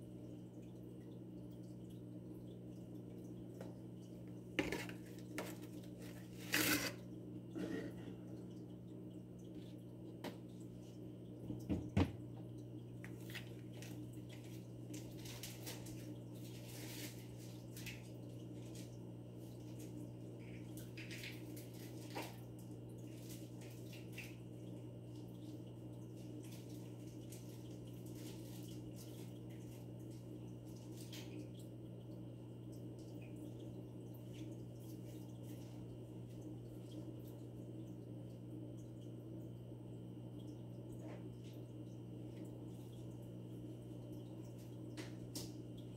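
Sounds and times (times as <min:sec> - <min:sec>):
aquarium equipment humming: 0:00.0 - 0:45.9
water trickling and dripping: 0:00.0 - 0:45.9.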